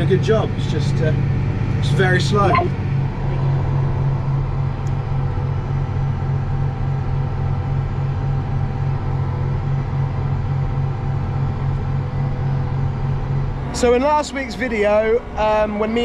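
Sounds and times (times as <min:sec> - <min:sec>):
tractor diesel engine drone: 0:00.0 - 0:16.0.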